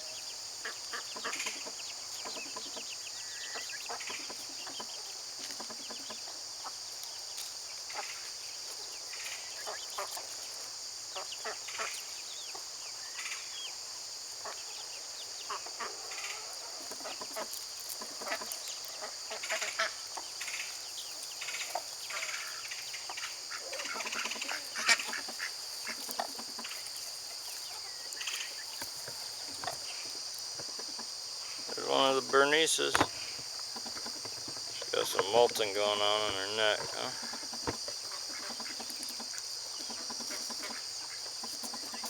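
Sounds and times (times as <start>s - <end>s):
poultry calling: 0.0s - 6.8s, 14.4s - 42.0s
high-pitched insect chorus: 0.0s - 42.0s.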